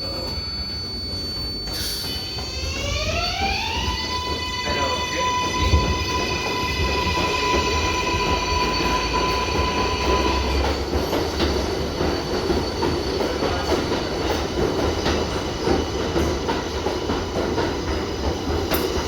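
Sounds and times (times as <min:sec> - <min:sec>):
subway train rumbling on rails: 0:00.0 - 0:19.0.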